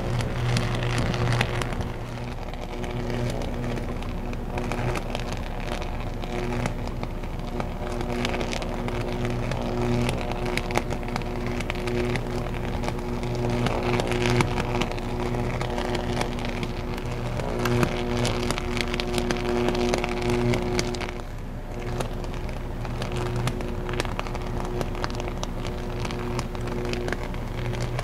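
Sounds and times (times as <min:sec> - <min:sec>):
electrical arc buzzing and crackling: 0:00.0 - 0:28.0
sharp electrical crack: 0:00.0 - 0:28.0.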